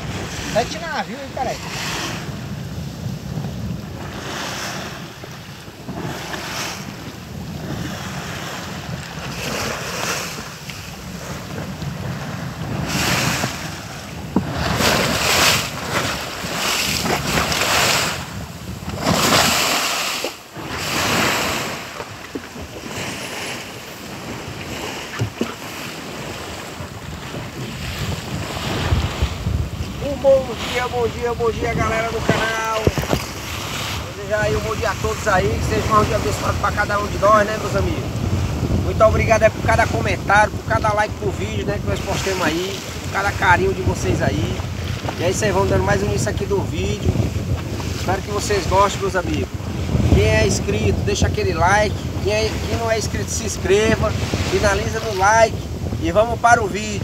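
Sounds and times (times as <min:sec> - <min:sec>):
seawater rushing along a hull: 0:00.0 - 0:57.0
wind buffeting microphone: 0:00.0 - 0:57.0.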